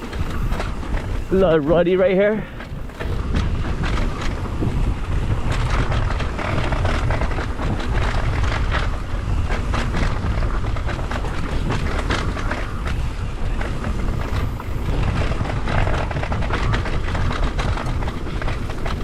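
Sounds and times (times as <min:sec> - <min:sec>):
tyres rattling over rutted dirt: 0:00.0 - 0:19.0
wind buffeting microphone: 0:00.0 - 0:19.0.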